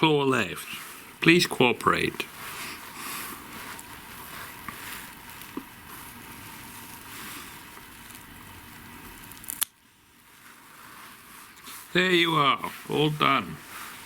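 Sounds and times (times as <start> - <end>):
rustling and handling noise: 0.0 - 14.0.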